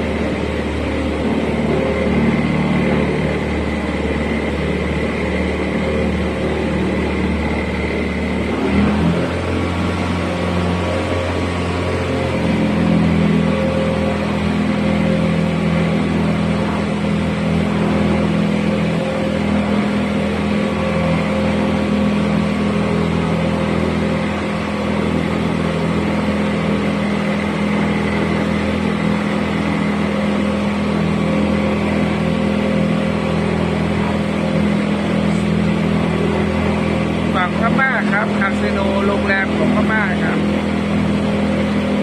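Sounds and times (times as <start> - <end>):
boat engine droning: 0.0 - 42.0
water and wind noise: 0.0 - 42.0.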